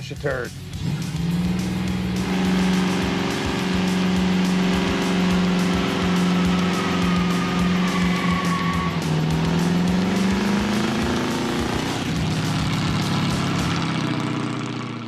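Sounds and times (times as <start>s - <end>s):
music with steady beat: 0.0s - 14.0s
car engine accelerating: 0.5s - 15.0s.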